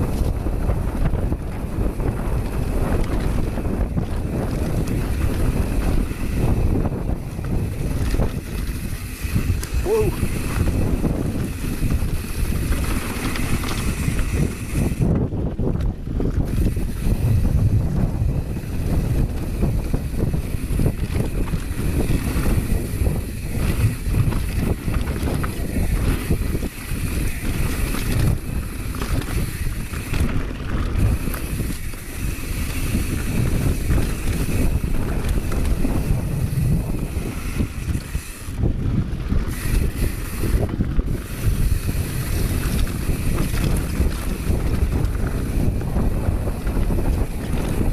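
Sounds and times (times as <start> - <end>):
bike rattling over rough ground: 0.0 - 47.9
wind buffeting microphone: 0.0 - 47.9.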